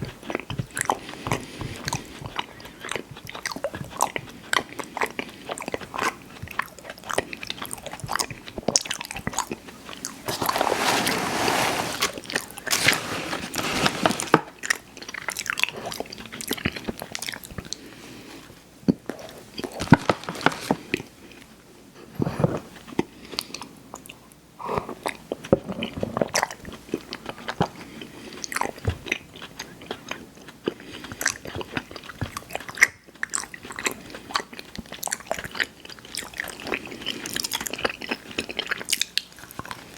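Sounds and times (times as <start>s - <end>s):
chewing sweet snacks: 0.0s - 10.5s, 14.5s - 21.6s, 22.2s - 39.9s.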